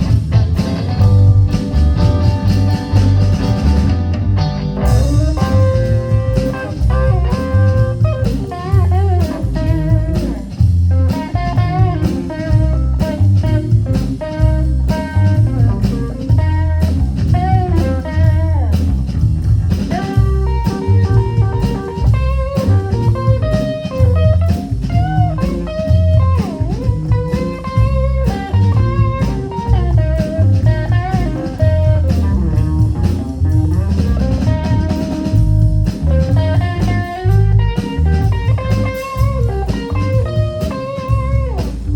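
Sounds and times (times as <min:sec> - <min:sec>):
bass guitar: 0:00.0 - 0:41.9
drum kit beat: 0:00.0 - 0:41.9
electric guitar bent notes: 0:00.0 - 0:41.9.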